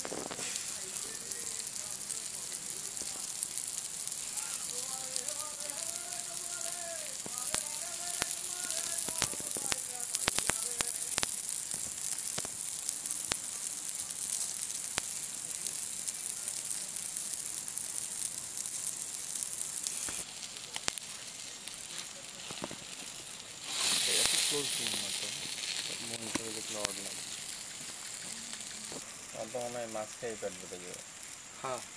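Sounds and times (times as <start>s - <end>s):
crackles: 0.0s - 31.9s
fish sizzling on a grill: 0.0s - 31.9s.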